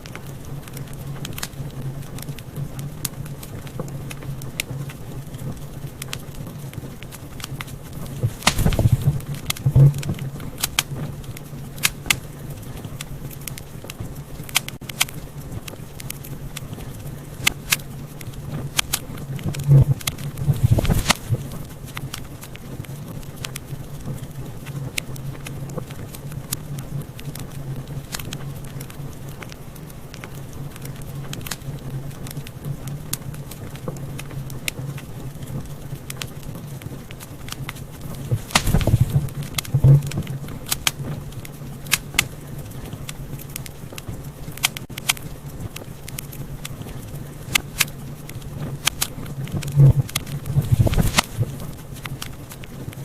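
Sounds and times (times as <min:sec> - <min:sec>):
low rumble of flame: 0:00.0 - 0:53.0
wood fire crackling and popping: 0:00.0 - 0:53.0.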